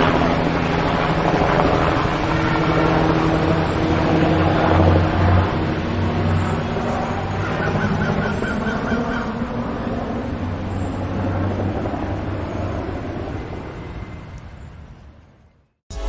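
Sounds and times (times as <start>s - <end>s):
helicopter rotor drone: 0.0s - 15.5s.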